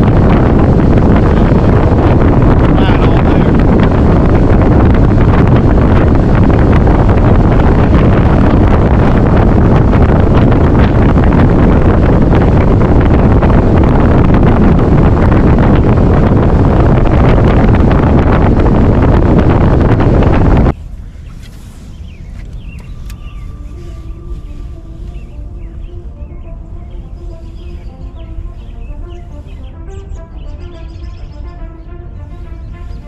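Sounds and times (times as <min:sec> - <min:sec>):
wind roaring over microphone: 0:00.0 - 0:33.0.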